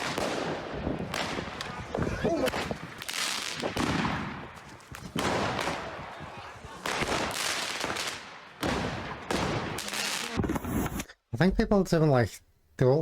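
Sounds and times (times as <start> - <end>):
fireworks exploding loud bangs: 0.0 - 11.0.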